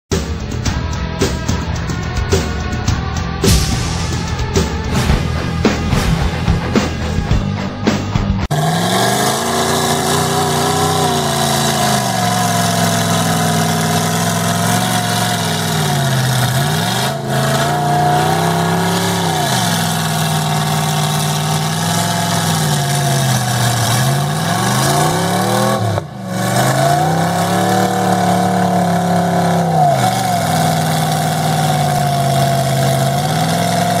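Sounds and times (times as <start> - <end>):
truck engine revving: 0.2 - 34.0.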